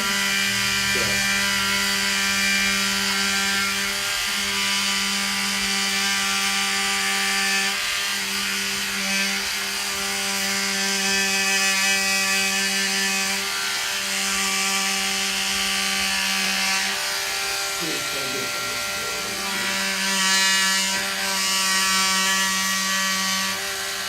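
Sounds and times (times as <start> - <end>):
vibration therapy device buzzing: 0.0 - 24.0.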